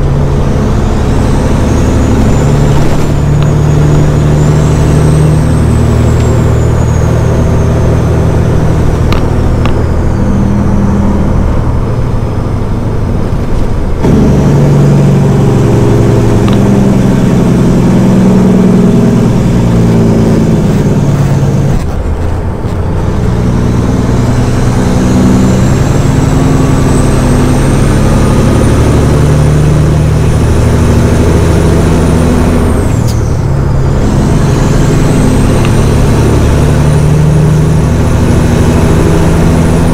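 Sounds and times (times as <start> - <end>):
diesel truck engine accelerating: 0.0 - 39.9.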